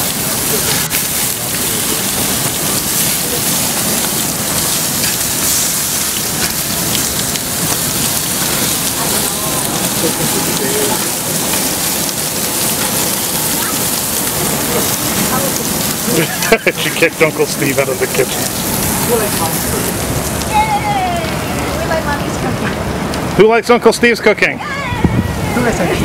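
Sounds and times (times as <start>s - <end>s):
food sizzling on a grill: 0.0s - 26.0s.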